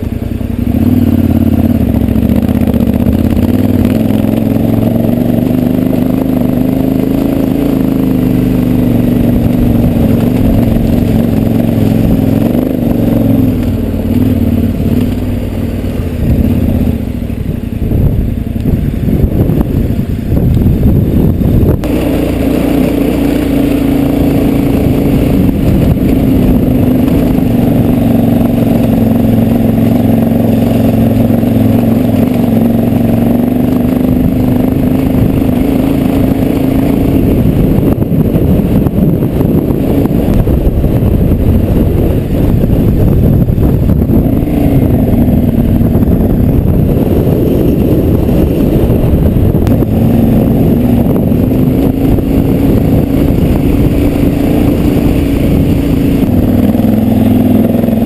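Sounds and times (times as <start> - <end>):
motorcycle engine under steady throttle: 0.0 - 58.0
wind rumble on microphone: 0.0 - 58.0.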